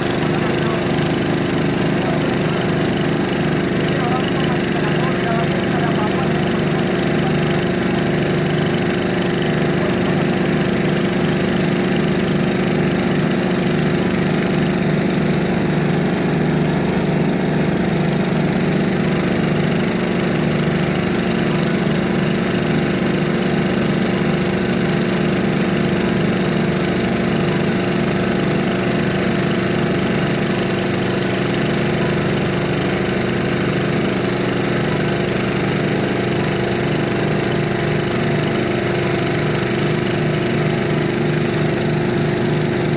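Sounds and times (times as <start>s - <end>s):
engine throbbing steadily: 0.0s - 42.9s.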